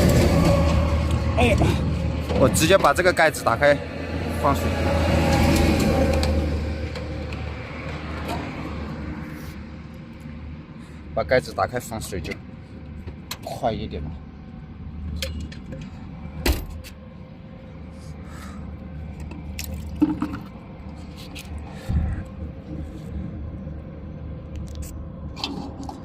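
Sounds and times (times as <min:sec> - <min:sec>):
low hum: 0:00.0 - 0:11.2, 0:14.0 - 0:26.0.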